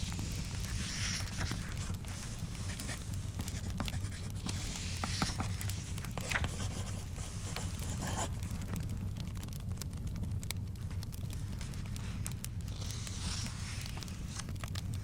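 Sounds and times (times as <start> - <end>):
book page turning: 0.0 - 8.4, 11.3 - 14.9
fireplace crackling and popping: 0.0 - 15.0.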